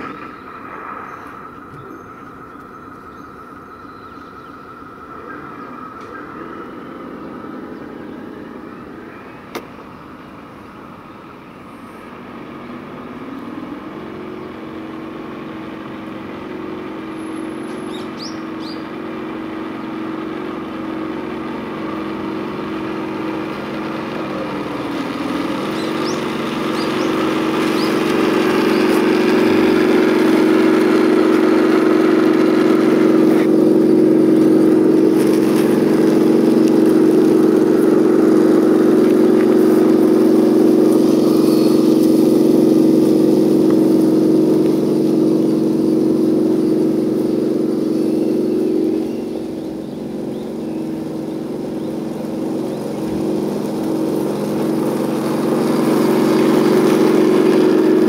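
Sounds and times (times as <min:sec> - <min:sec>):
toy tank mechanical hum: 0:00.0 - 0:58.0.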